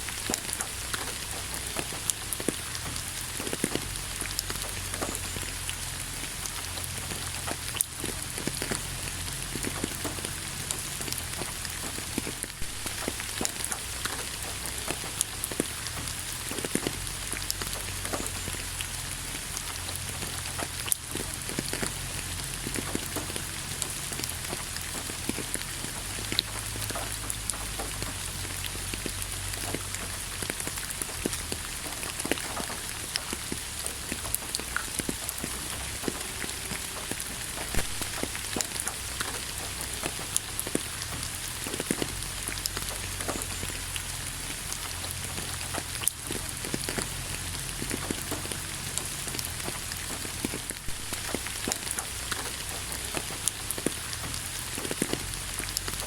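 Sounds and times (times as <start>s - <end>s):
low steady rumble: 0.0s - 56.0s
steady rain hiss: 0.0s - 56.0s.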